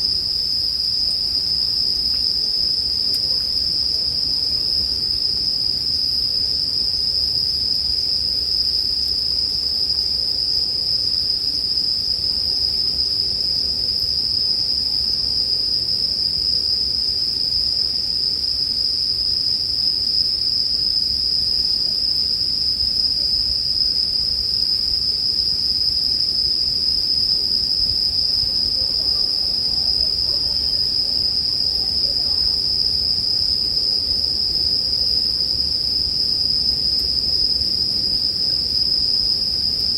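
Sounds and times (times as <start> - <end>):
crickets high-pitched ringing: 0.0 - 39.9.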